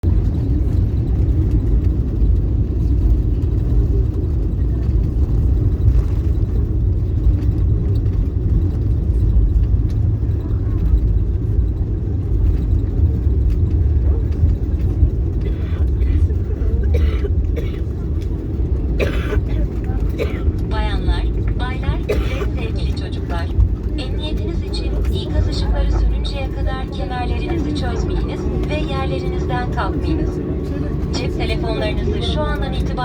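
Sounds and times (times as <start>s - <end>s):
airliner cabin low rumble: 0.0s - 33.0s.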